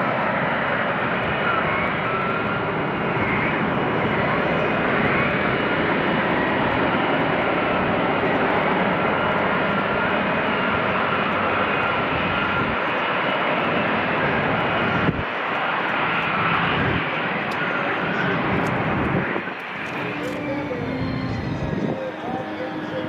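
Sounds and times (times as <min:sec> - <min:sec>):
faint high whine: 0:00.0 - 0:23.0
jet engine rushing: 0:00.0 - 0:23.0.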